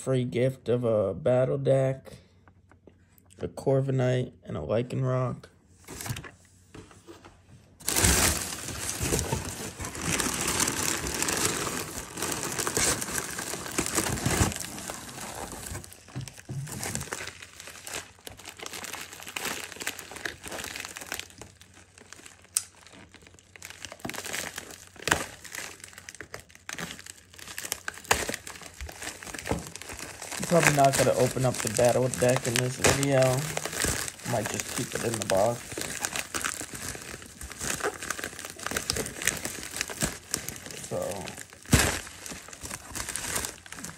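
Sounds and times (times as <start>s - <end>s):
packing material crinkling: 7.8s - 43.9s.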